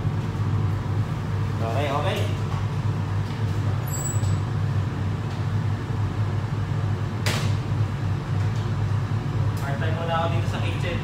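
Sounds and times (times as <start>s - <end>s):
kitchen ventilation hum: 0.0s - 11.0s.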